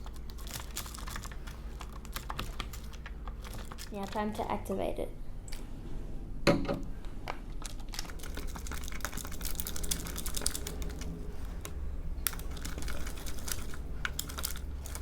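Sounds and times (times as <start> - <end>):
crunchy slime clicking and crackling: 0.0 - 4.6, 7.5 - 15.0.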